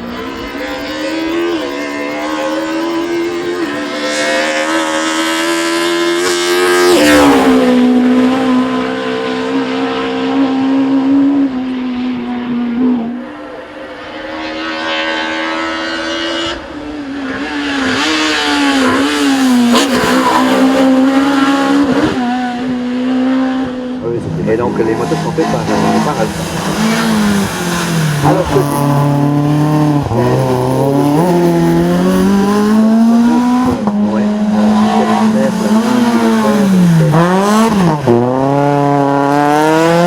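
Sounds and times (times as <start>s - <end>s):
race car engine at full throttle: 0.0s - 40.0s.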